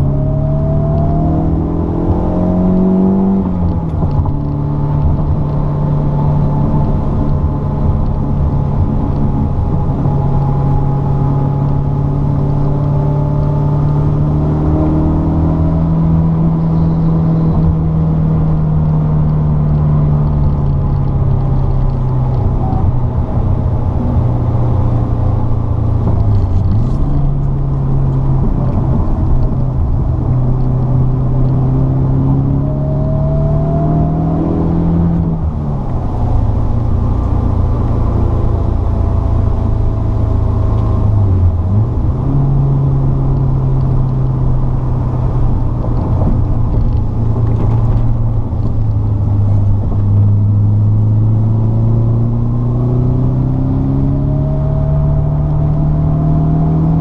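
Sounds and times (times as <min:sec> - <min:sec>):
car engine revving: 0:00.0 - 0:57.0
tyre and road noise: 0:00.0 - 0:57.0.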